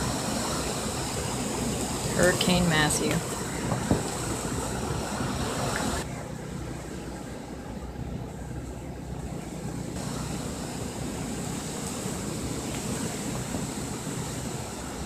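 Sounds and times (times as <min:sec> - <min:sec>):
hurricane wind rushing: 0:00.0 - 0:15.0.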